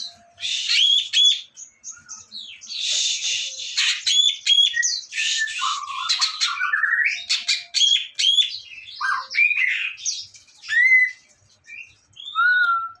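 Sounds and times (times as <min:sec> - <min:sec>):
songbird singing whistled notes: 0:00.0 - 0:13.0.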